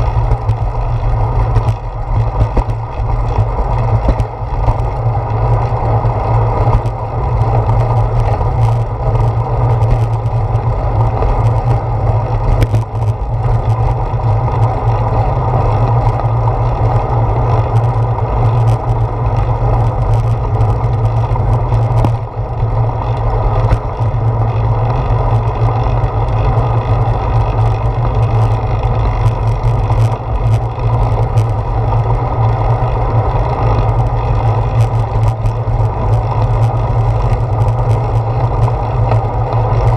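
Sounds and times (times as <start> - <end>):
bicycle knocking over bumps: 0.0 - 39.9
road rumble: 0.0 - 39.9.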